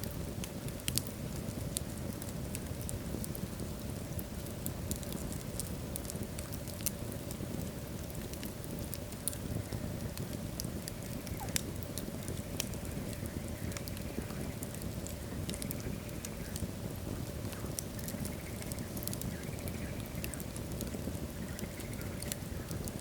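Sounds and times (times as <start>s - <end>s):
fire flames rumbling: 0.0s - 23.0s
wood crackling and popping: 0.0s - 23.0s.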